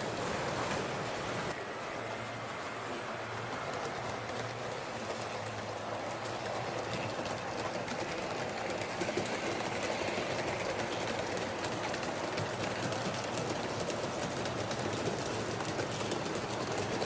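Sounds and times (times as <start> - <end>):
model train whirring rattle: 3.3 - 17.0.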